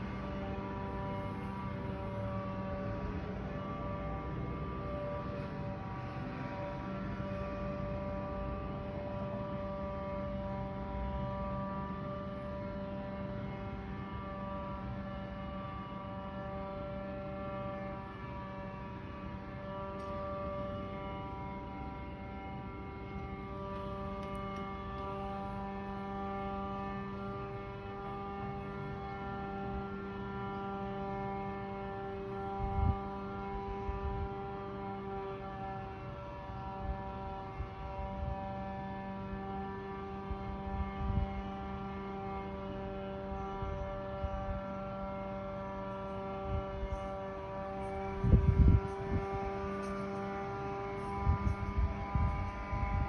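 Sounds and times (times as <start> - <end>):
droning hum of held tones: 0.0 - 53.0.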